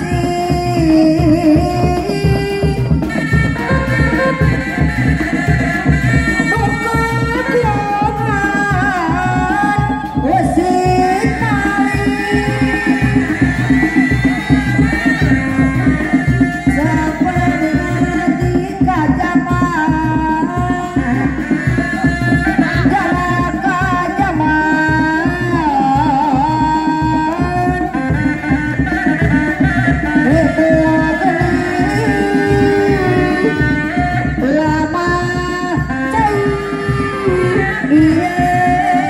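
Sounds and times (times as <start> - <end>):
drums beating fast rhythm: 0.0 - 39.0
shawm playing held melody: 0.0 - 39.0.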